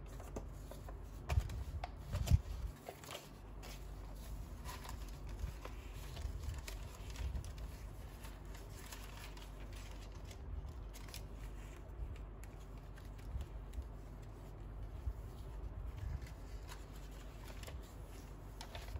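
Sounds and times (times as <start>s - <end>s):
paper pages rustling: 0.0s - 18.9s.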